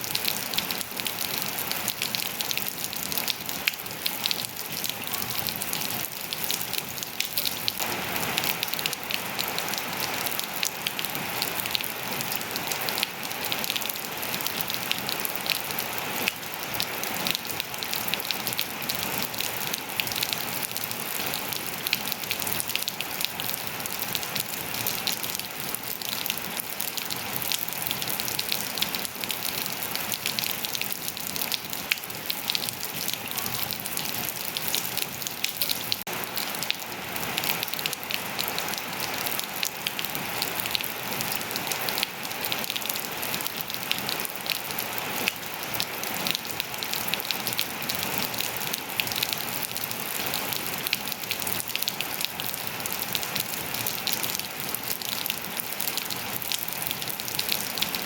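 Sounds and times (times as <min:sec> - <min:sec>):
rain on hard surfaces and foliage: 0:00.0 - 0:58.0.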